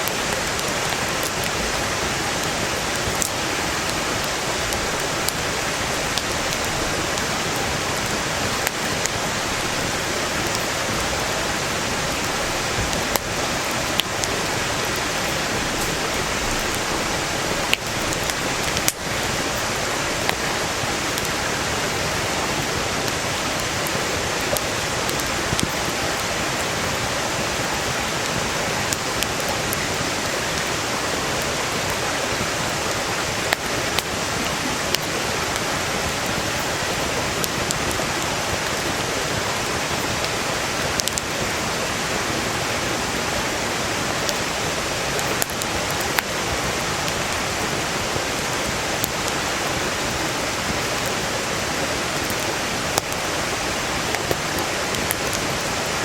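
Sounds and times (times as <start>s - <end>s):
campfire crackling and popping: 0.0s - 42.0s, 42.6s - 56.0s
stream rushing: 0.0s - 56.0s.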